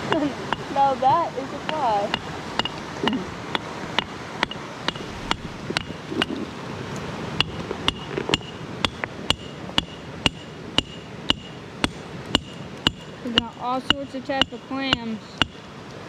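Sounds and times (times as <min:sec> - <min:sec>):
hammer striking rock: 0:01.7 - 0:06.4, 0:07.4 - 0:15.6.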